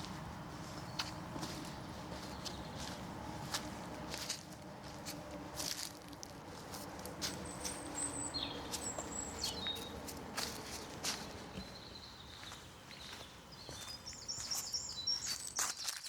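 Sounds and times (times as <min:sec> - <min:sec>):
footsteps on a trail: 0:00.0 - 0:16.0.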